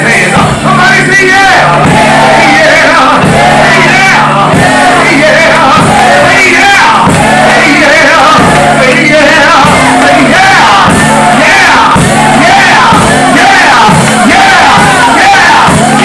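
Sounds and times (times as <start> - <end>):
church music with low chords: 0.0 - 16.0
voices shouting and singing: 0.0 - 16.0.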